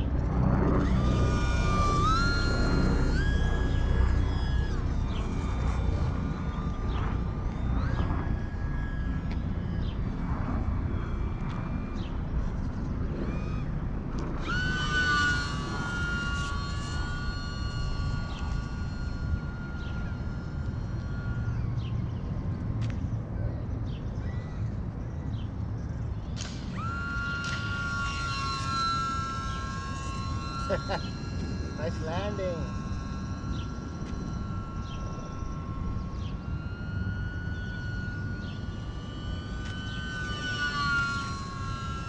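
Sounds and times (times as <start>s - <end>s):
small electric motor whining: 0.0s - 42.0s.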